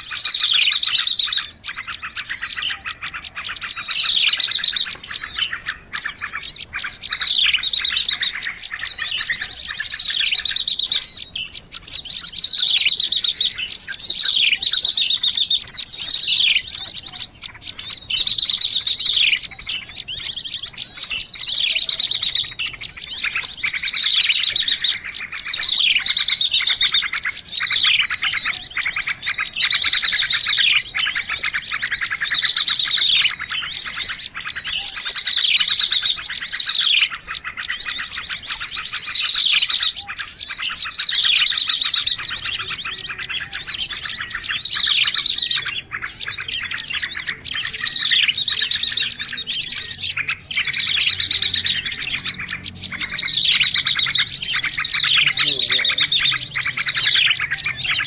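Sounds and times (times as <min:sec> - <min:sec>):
songbird chirping trills: 0:00.0 - 0:58.0.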